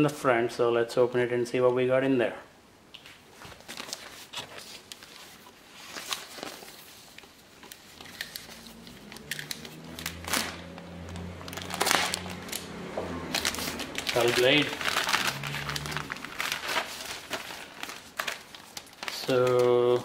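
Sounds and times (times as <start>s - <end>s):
plastic bag crinkling: 3.5s - 20.0s.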